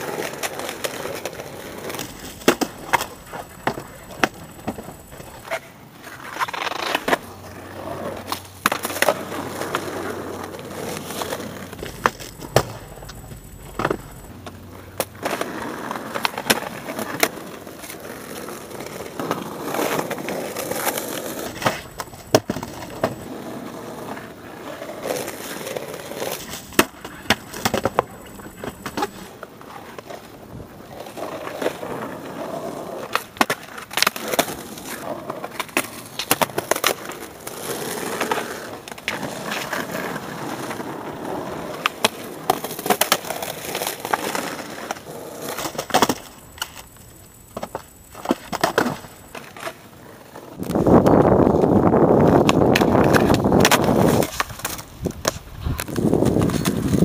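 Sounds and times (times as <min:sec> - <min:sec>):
skateboards clacking: 0:00.0 - 0:57.0
skateboards rolling on concrete: 0:00.0 - 0:57.0.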